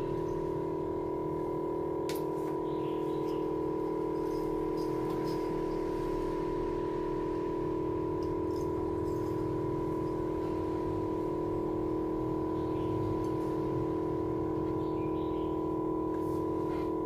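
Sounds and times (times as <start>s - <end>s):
vacuum pump hum: 0.0s - 17.0s.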